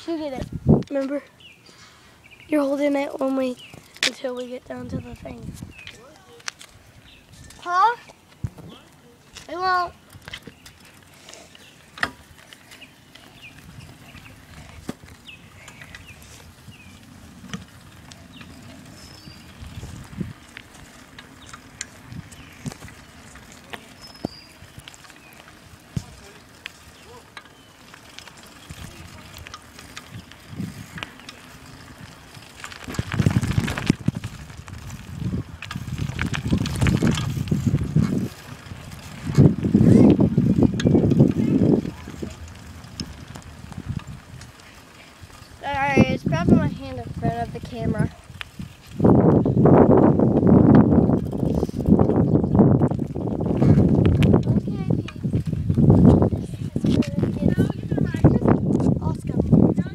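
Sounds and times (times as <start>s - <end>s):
wind buffeting microphone: 0.0s - 1.6s, 2.2s - 59.9s
bicycle clicks and knocks: 9.3s - 59.7s
rough low rumble: 11.0s - 59.9s.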